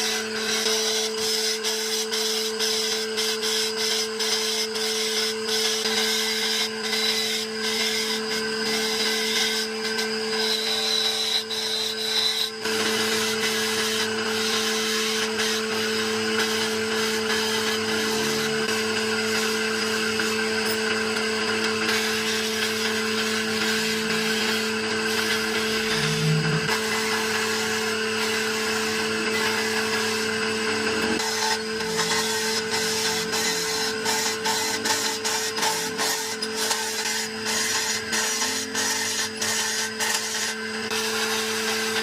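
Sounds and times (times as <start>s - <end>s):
power tool working wood: 0.0s - 42.0s.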